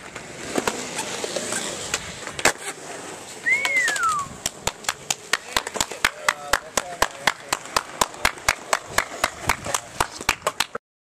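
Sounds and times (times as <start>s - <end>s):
skateboard impact: 0.0s - 10.8s
skateboard wheels rolling and clacking: 0.0s - 10.8s.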